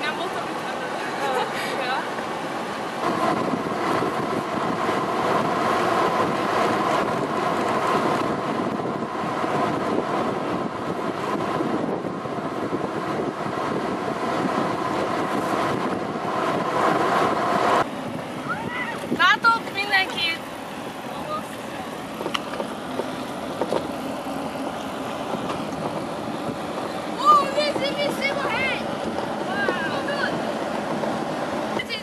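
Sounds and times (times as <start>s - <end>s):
tyre and road noise: 0.0s - 32.0s
wind rushing over microphone: 2.0s - 32.0s.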